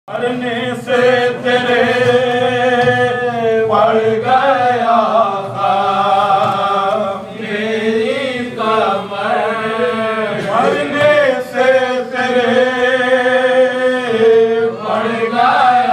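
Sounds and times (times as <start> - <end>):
men chanting a mourning elegy: 0.1 - 15.9.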